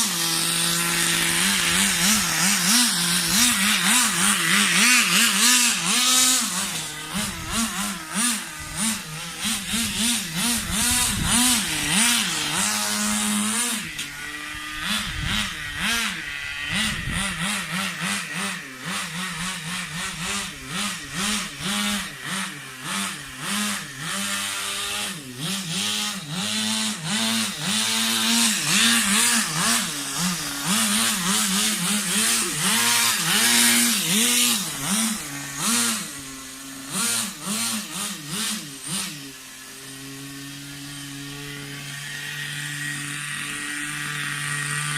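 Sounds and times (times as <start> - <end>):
rc car engine buzzing: 0.0 - 44.9.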